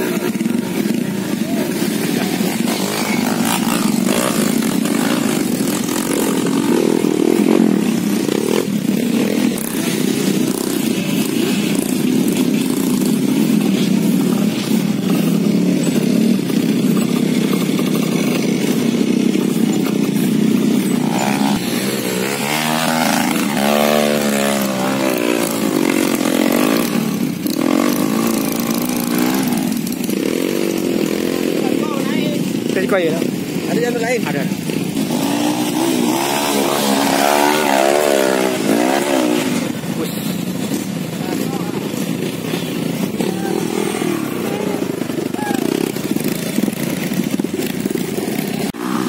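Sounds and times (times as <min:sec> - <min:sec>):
dirt bike engines under load: 0:00.0 - 0:49.0
motorcycle engine revving: 0:00.0 - 0:49.0.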